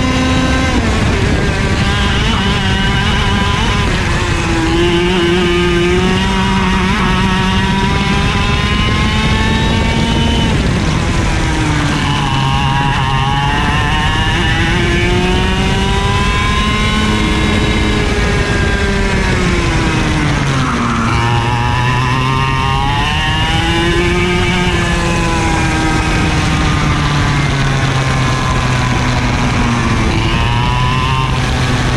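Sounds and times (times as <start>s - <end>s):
kart engine revving: 0.0s - 31.9s.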